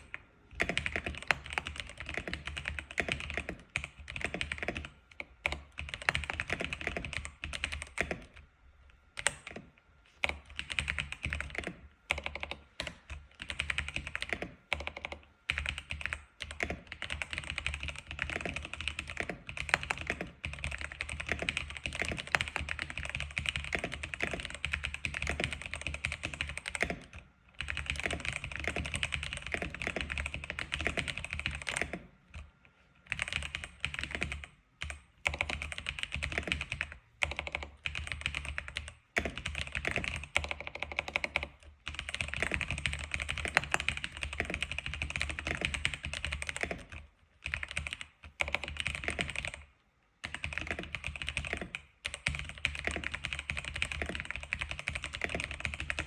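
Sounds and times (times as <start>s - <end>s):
fast keyboard typing: 0.0s - 8.4s, 9.2s - 32.5s, 33.1s - 56.0s.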